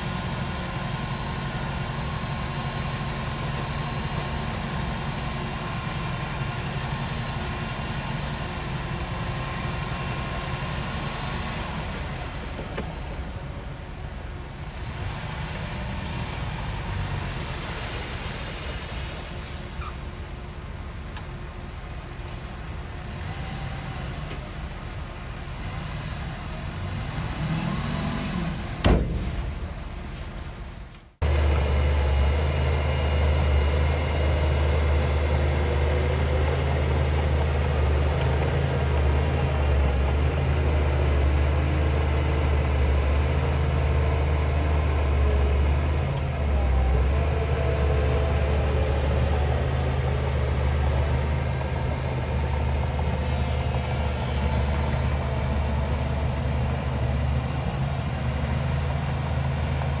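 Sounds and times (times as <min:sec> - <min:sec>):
heavy diesel engine droning: 0:00.0 - 1:00.0.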